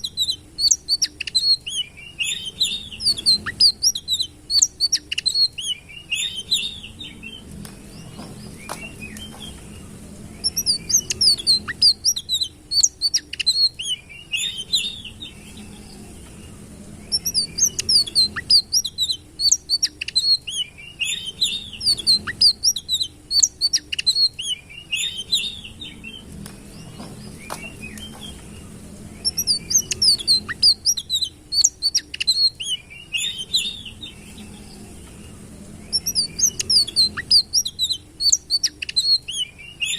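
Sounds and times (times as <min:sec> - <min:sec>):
bird chirping: 0:00.0 - 0:39.9
faint low hum: 0:00.0 - 0:39.9.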